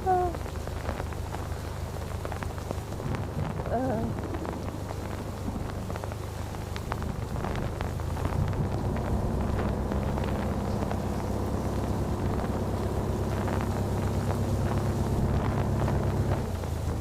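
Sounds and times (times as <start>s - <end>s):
boat engine running: 0.0s - 17.0s
faint rain pattering: 0.0s - 17.0s.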